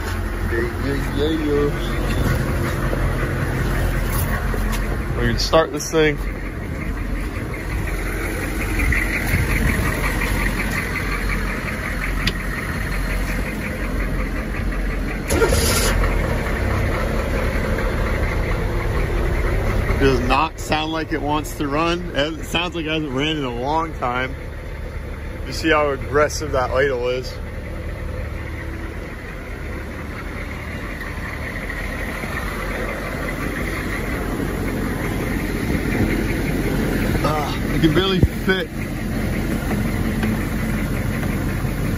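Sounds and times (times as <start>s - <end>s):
diesel engine running rough: 0.0s - 41.9s.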